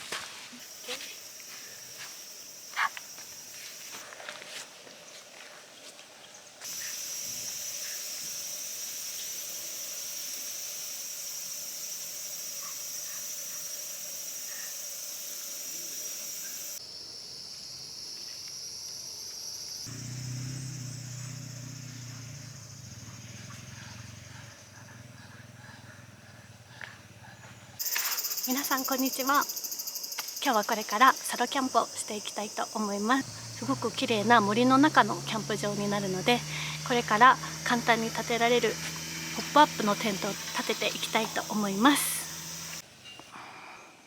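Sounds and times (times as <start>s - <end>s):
insects chirring: 0.0s - 4.4s, 6.6s - 43.3s.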